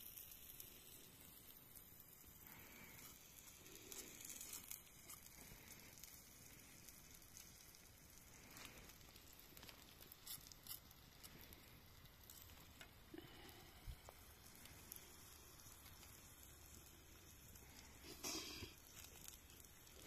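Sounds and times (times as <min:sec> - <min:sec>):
faint steady hiss: 0:00.0 - 0:20.0
soft crackles and clicks: 0:00.0 - 0:20.0.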